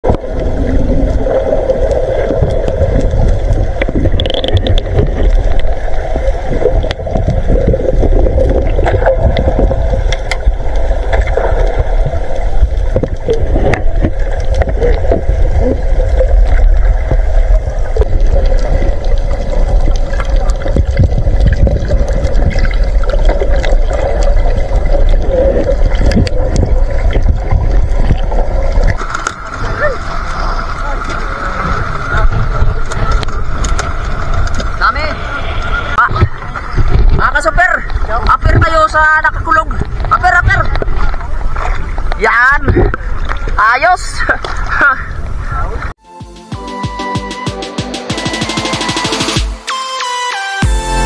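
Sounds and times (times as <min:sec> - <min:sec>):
muffled underwater rumble: 0:00.0 - 0:45.9.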